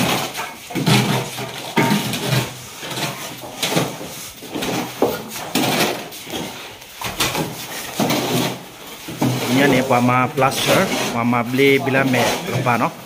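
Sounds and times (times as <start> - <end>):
hoes scraping wet mortar: 0.0 - 13.0.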